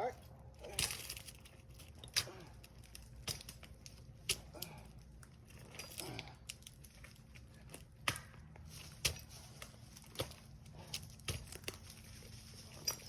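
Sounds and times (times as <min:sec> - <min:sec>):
climbing spurs stabbing tree trunk: 0:00.6 - 0:04.9, 0:05.5 - 0:12.2.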